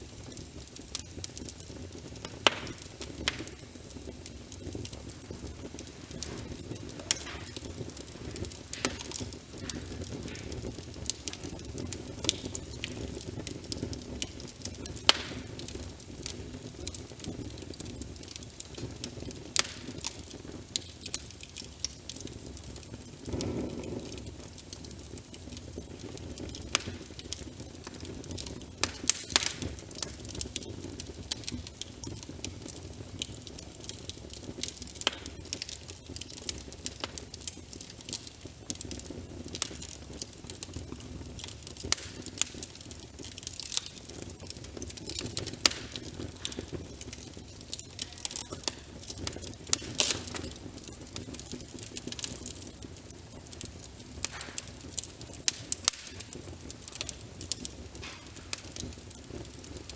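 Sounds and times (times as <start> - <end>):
fireplace crackling: 0.0 - 59.9
rain: 0.0 - 59.9.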